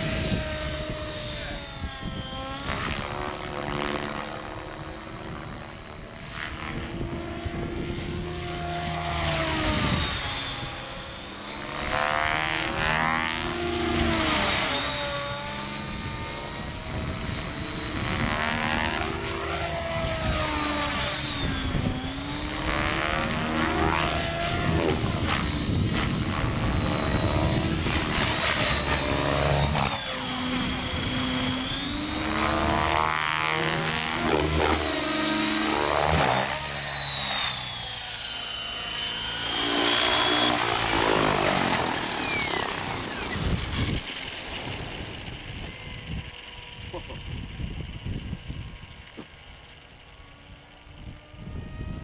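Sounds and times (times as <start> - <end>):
electric rc helicopter whine: 0.0 - 52.0
helicopter rotor noise: 0.0 - 52.0.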